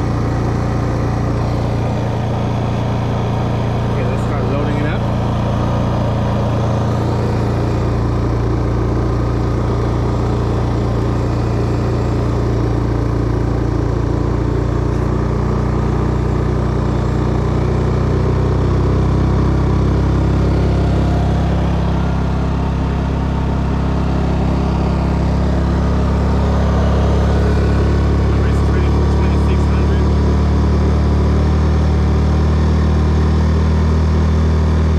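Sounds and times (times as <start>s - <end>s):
generator engine humming: 0.0s - 34.9s.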